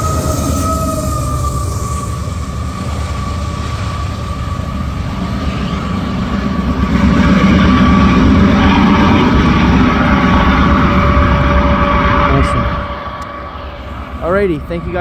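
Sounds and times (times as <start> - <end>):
train wheels rumbling and clattering: 0.0 - 15.0.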